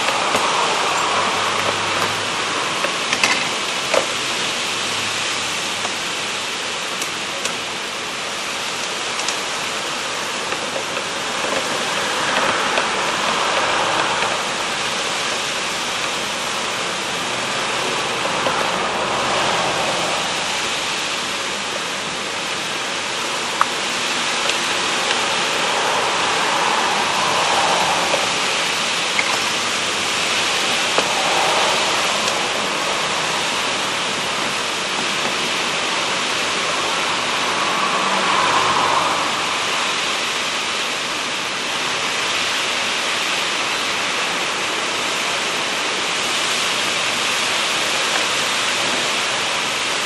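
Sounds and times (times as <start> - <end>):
heavy rain in gusty wind: 0.0 - 50.0
raindrops ticking nearby: 0.0 - 50.0.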